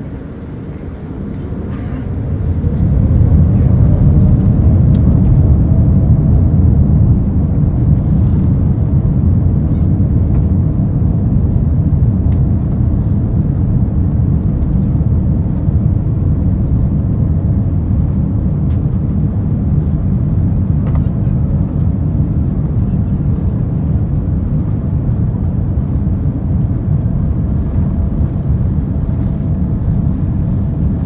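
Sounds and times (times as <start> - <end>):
vehicle rumble from inside: 0.0 - 31.0.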